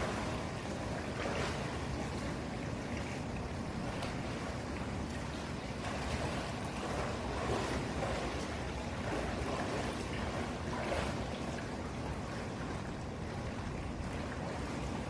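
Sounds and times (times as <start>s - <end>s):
water churning and splashing: 0.0s - 15.0s.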